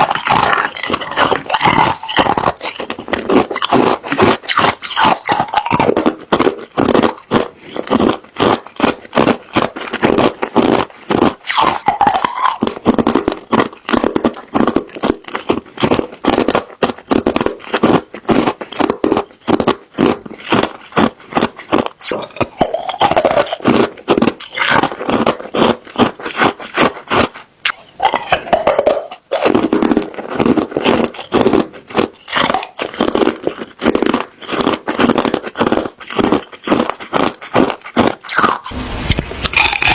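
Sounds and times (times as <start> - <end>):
ice cubes being chewed: 0.0 - 39.9.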